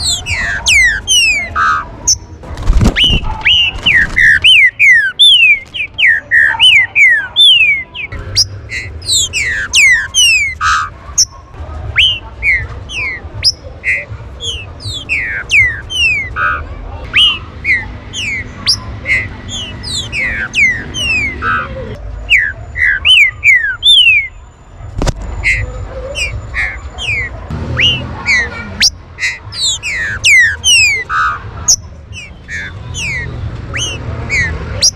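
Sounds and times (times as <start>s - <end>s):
birds chattering whistles: 0.0s - 24.5s, 25.4s - 34.9s.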